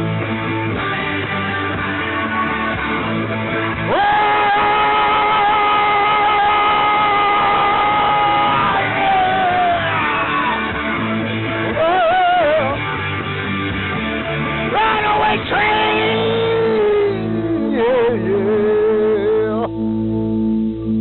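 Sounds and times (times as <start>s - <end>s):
bending guitar notes: 0.0s - 21.0s
live rock band: 0.0s - 21.0s
wordless yelled singing: 0.8s - 12.8s, 14.7s - 19.7s.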